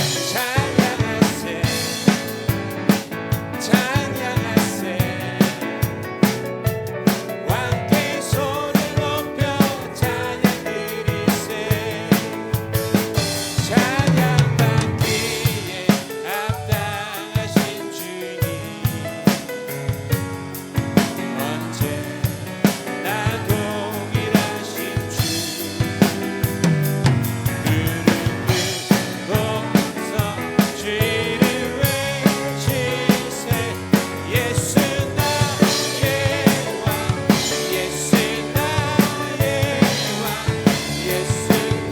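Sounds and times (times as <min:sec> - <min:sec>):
person singing: 0:00.0 - 0:06.4, 0:07.0 - 0:19.8, 0:21.0 - 0:41.9
drum kit beat: 0:00.0 - 0:41.9
worship band playing: 0:00.0 - 0:41.9.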